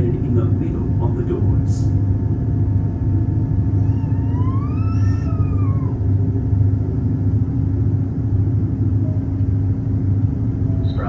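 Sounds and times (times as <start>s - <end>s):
electric train rumble and hum: 0.0s - 11.0s
rising and falling whine: 1.9s - 11.0s.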